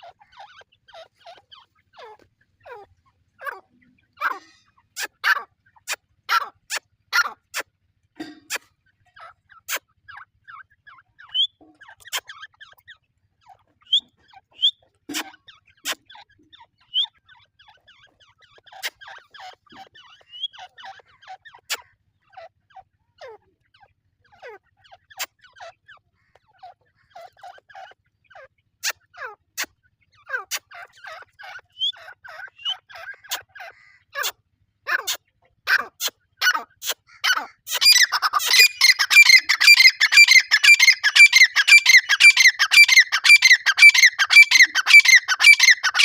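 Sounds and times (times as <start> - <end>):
partridges calling: 0.0 - 7.6, 8.2 - 46.0.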